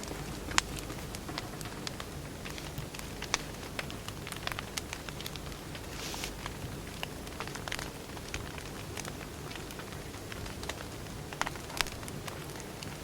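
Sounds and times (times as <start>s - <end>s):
low rumble of fire: 0.0s - 13.0s
sharp pops of fire: 0.0s - 13.0s
wood fire crackling: 0.0s - 13.0s.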